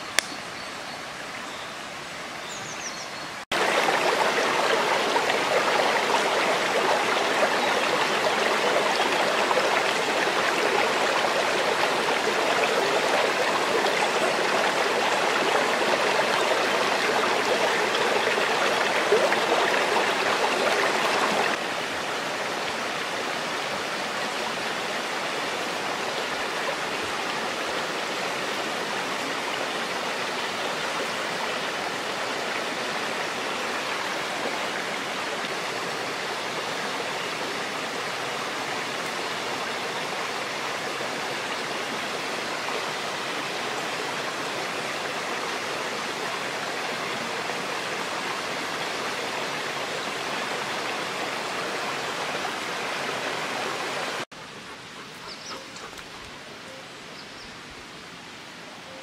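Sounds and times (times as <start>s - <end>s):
stream flowing over stones: 3.4s - 59.0s.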